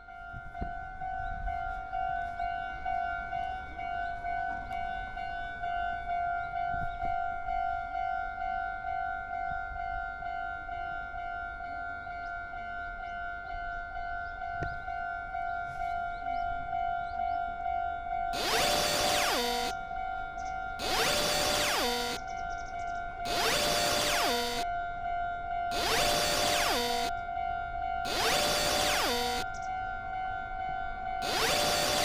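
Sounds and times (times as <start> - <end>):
railroad crossing alarm ringing: 0.0 - 32.0.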